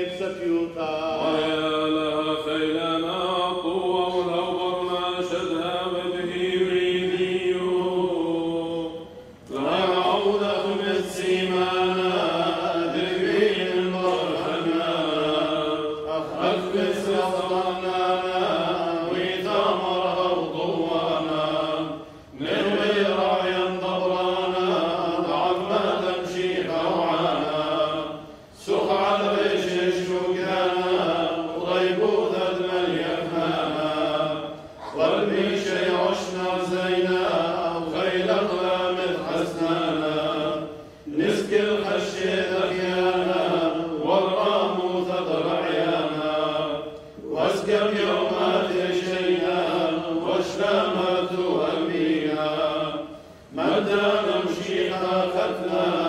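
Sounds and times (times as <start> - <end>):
clergy chanting: 0.0 - 56.0.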